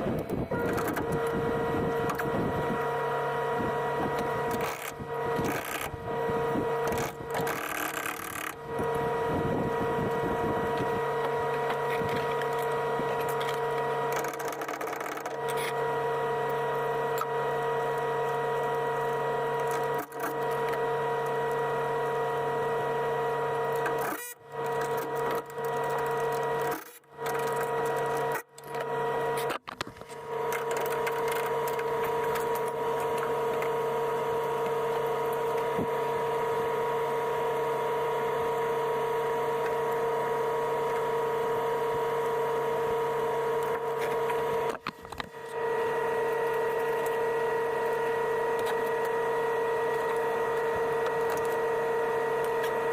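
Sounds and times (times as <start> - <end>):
motor running with whine: 0.0 - 52.9.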